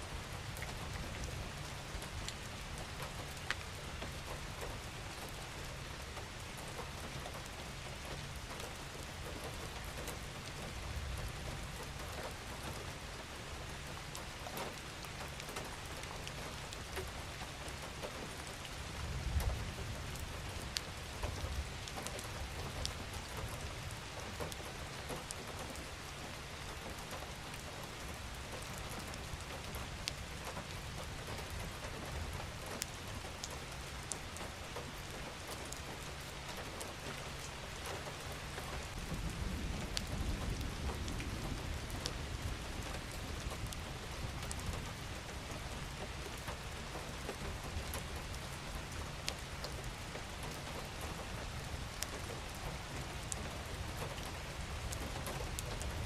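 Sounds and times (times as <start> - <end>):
steady rain falling: 0.0 - 56.0
raindrops ticking: 0.4 - 56.0.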